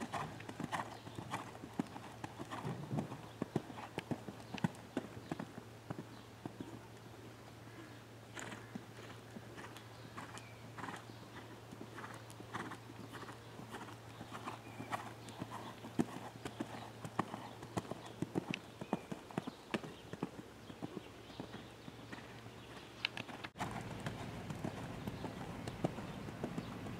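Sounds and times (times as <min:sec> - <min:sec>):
horse hoofbeats cantering on sand: 0:00.0 - 0:06.8, 0:08.4 - 0:26.9.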